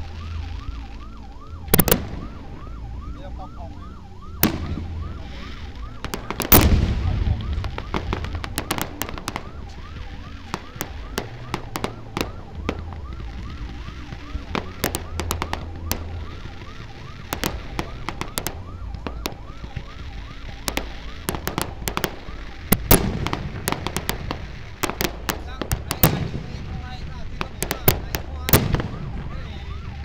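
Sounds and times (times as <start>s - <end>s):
low rumble: 0.0s - 30.0s
siren-like whooping tone: 0.0s - 30.0s
firework boom: 4.3s - 30.0s
firework cracks and pops: 4.4s - 30.0s.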